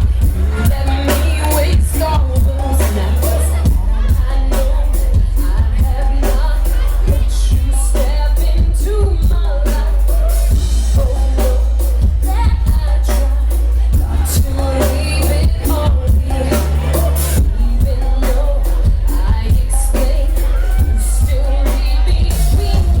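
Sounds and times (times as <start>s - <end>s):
driving drum beat: 0.0s - 23.0s
heavy bass: 0.0s - 23.0s
woman singing: 0.0s - 23.0s.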